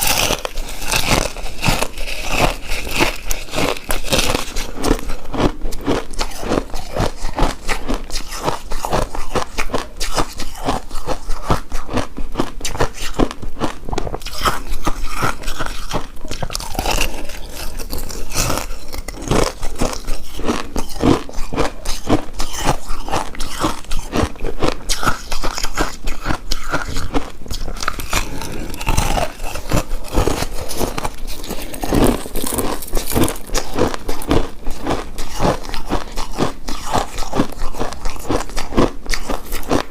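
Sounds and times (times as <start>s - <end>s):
person chewing rice cake: 0.0s - 39.9s.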